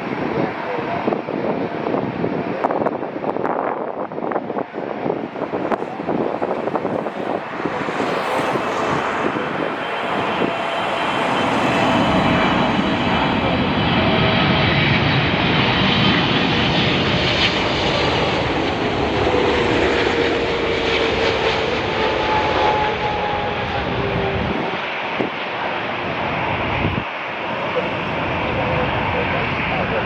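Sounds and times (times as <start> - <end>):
jet airliner landing: 0.0 - 30.0.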